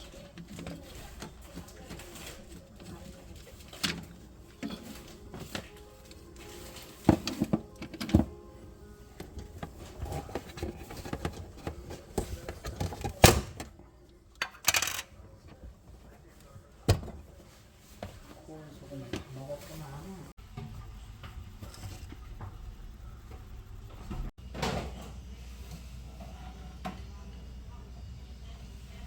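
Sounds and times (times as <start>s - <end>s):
quiet background music: 0.0s - 29.0s.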